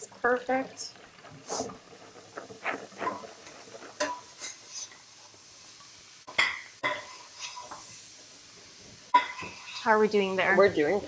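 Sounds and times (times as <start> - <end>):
vegetables sauteing: 0.0 - 11.0.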